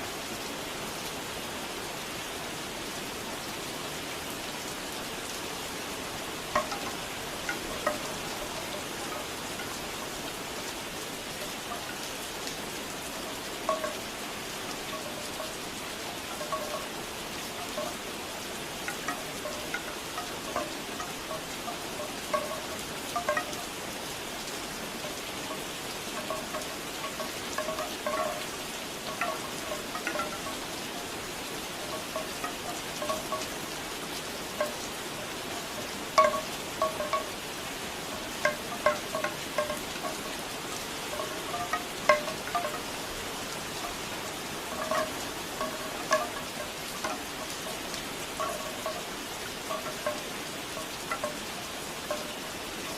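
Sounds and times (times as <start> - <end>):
rain falling: 0.0 - 52.9
bamboo wind chimes knocking: 6.2 - 24.1, 24.7 - 52.9.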